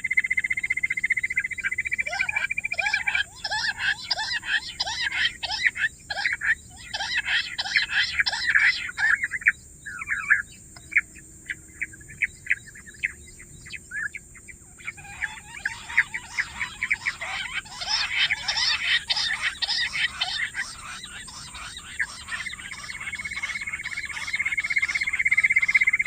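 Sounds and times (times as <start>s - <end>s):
quail chirping: 0.0s - 26.0s.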